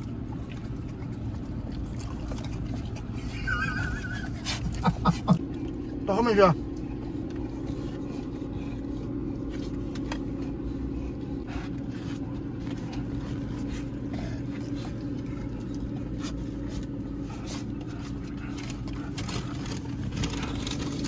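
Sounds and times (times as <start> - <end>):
low car cabin hum: 0.0 - 21.0.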